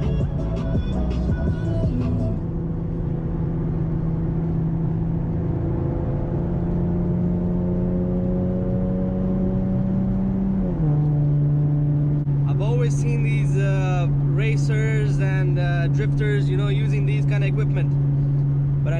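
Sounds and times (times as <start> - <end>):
car engine and exhaust drone: 0.0 - 18.9.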